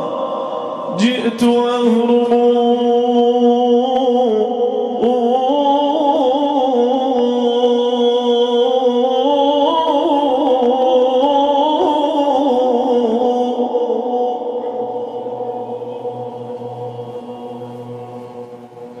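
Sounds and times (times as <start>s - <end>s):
man singing devotional chant: 0.0s - 19.0s.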